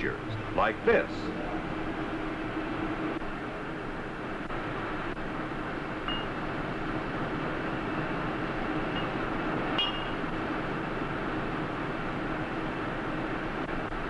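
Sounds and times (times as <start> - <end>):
machine mechanical rumble: 0.0 - 12.3.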